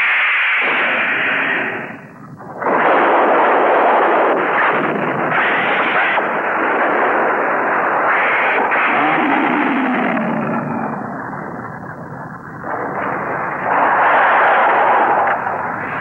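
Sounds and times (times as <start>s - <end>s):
burning fire: 0.0s - 16.0s
explosions: 0.6s - 16.0s.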